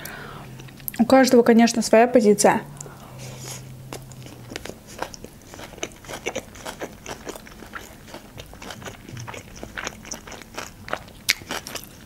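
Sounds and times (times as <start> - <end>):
chewing with mouth clicks: 0.5 - 1.1, 2.7 - 12.0.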